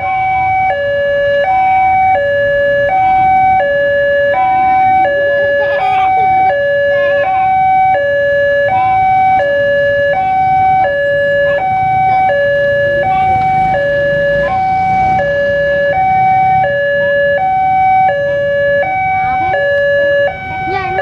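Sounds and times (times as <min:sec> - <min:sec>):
two-tone crossing warning alarm: 0:00.0 - 0:21.0.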